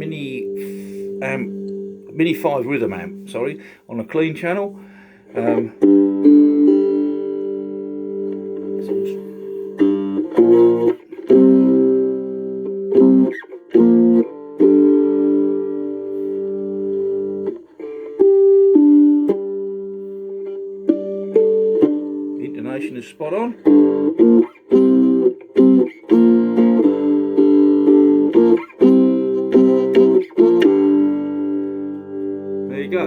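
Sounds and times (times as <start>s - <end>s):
strummed guitar chords: 0.0s - 33.0s.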